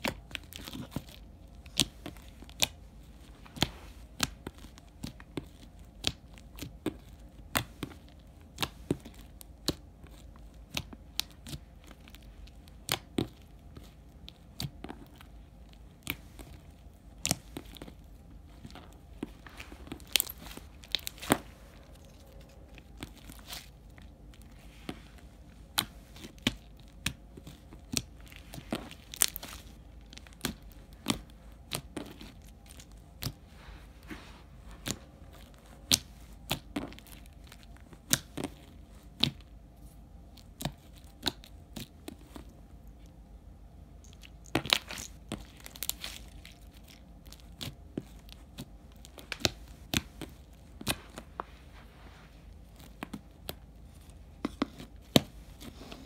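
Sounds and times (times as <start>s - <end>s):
hands squishing slime: 0.0s - 56.0s.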